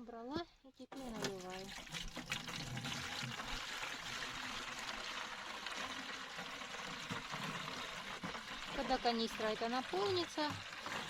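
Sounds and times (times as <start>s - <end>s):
water pouring into a plastic canister: 0.9s - 11.0s.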